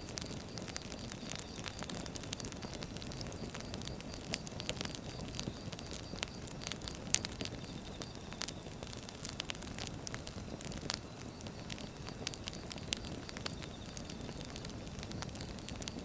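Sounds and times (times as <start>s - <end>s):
firewood crackling and popping: 0.0s - 16.0s
low rumble of flame: 0.0s - 16.0s.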